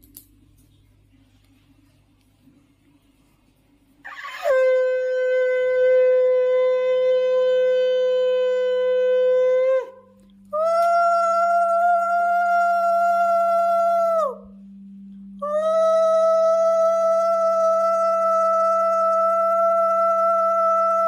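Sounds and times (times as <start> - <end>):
conch shell blown: 4.0 - 21.0.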